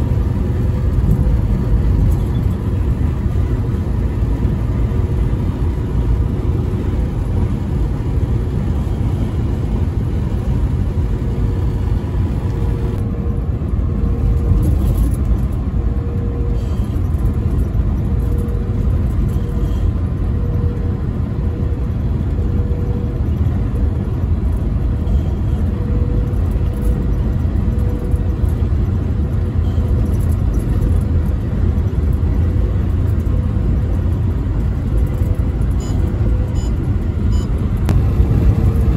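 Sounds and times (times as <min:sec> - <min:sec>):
vehicle road noise from inside: 0:00.0 - 0:38.9.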